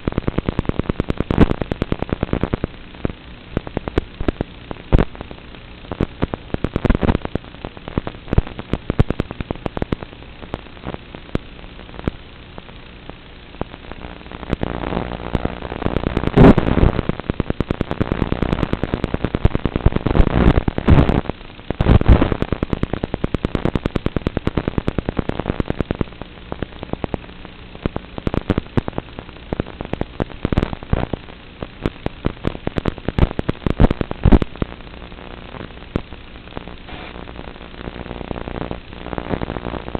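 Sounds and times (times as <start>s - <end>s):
radio static crackling: 0.0s - 39.9s.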